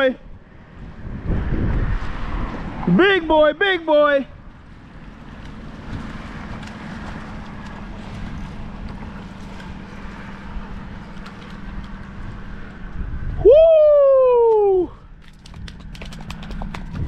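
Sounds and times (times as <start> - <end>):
wind on microphone: 0.2 - 3.0, 4.3 - 17.0.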